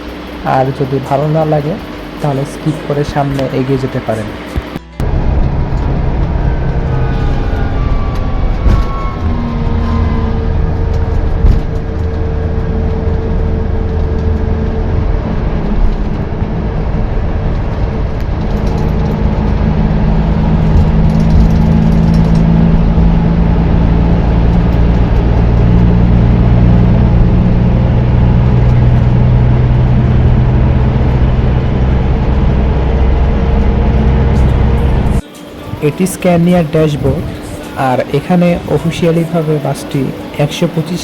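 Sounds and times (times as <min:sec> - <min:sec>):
bus diesel engine running: 0:00.0 - 0:41.0
road noise: 0:00.0 - 0:41.0.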